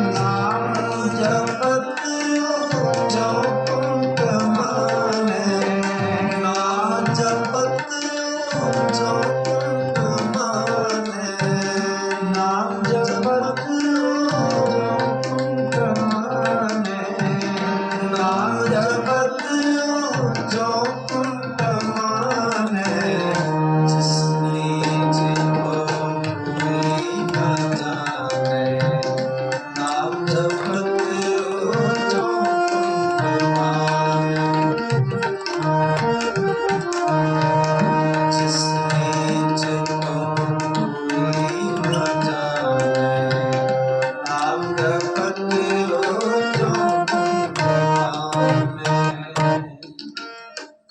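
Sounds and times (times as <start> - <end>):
harmonium melody: 0.0 - 50.9
tabla playing a steady beat: 0.0 - 50.9.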